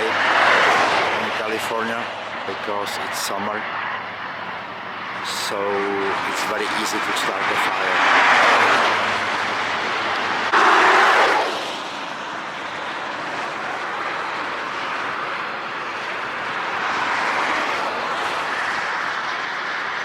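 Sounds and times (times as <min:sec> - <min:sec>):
road and wind noise in car: 0:00.0 - 0:20.0.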